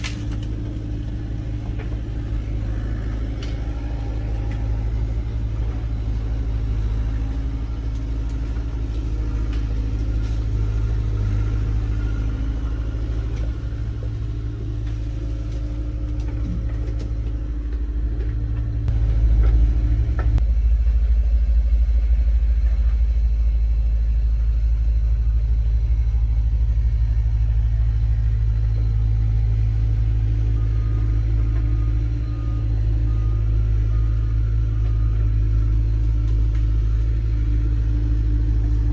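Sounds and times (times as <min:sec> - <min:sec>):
truck engine rumbling: 0:00.0 - 0:38.9.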